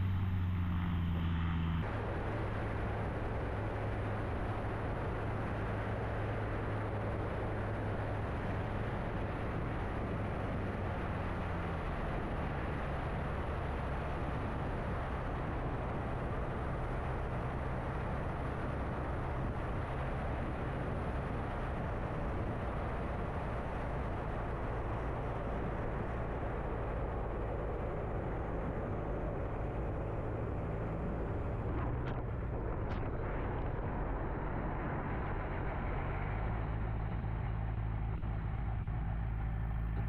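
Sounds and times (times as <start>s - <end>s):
propeller engine droning: 0.0s - 40.0s.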